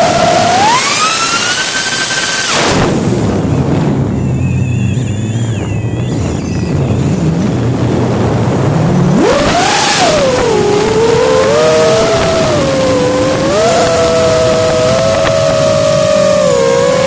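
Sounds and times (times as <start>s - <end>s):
drone motors humming and whining: 0.0s - 17.0s.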